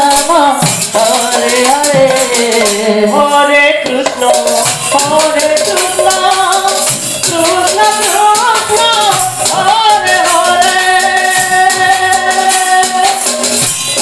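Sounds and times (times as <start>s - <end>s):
barrel drum beat: 0.0s - 14.0s
jingling percussion: 0.0s - 14.0s.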